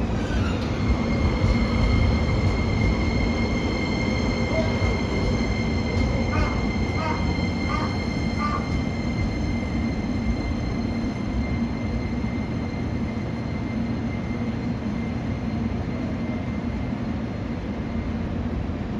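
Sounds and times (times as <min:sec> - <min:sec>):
electric trains rumbling and humming: 0:00.0 - 0:18.9.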